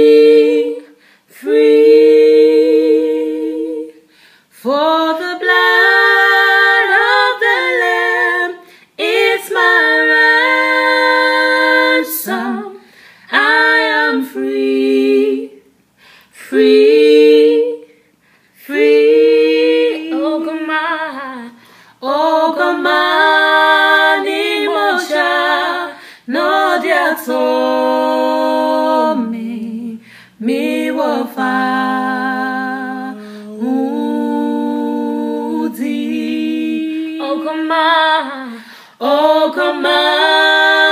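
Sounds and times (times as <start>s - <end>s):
women singing a cappella: 0.0s - 40.9s.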